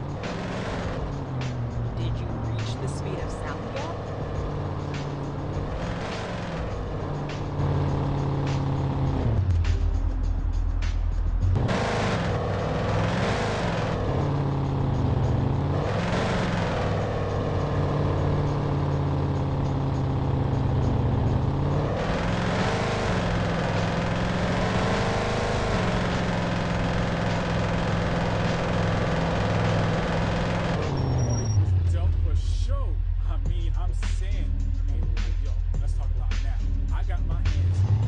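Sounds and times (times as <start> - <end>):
car cabin road noise: 0.0 - 32.7
car engine revving: 0.0 - 38.0.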